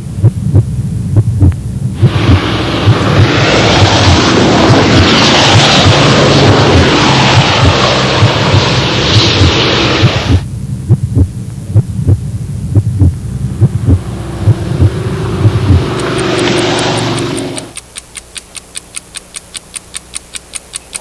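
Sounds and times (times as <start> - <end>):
low thumps: 0.0 - 17.6
low throbbing hum: 0.0 - 21.0.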